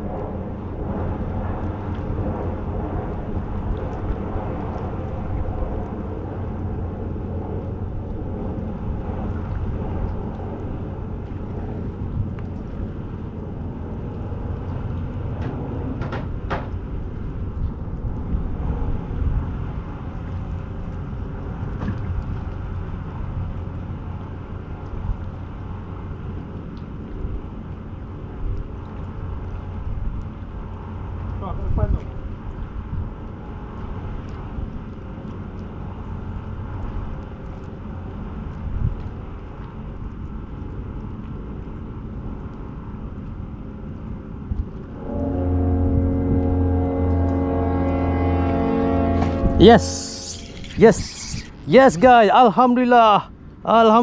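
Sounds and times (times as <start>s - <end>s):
wind buffeting microphone: 0.0s - 52.3s.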